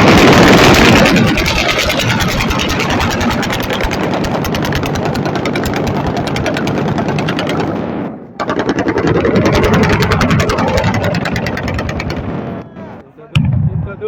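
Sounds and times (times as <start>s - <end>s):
rapid automatic gunfire: 0.0s - 12.7s.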